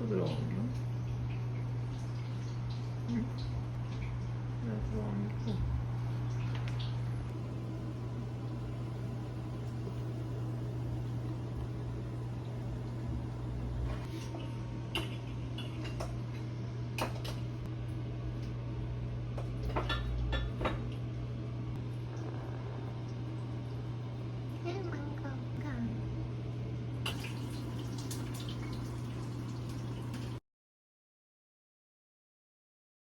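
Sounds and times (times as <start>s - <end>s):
low hum: 0.4s - 27.0s.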